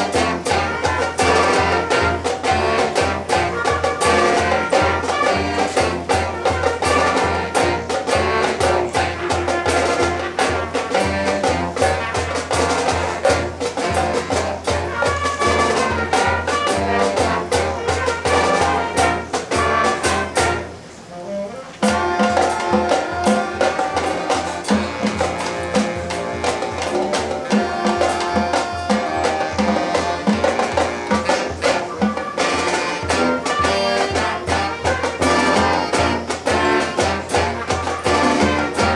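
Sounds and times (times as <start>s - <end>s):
marching band playing: 0.0s - 38.9s.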